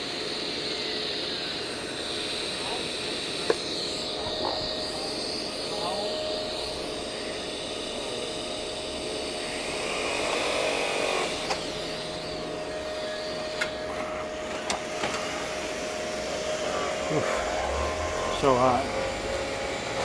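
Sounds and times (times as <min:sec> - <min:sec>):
welder humming and hissing: 0:00.0 - 0:20.0.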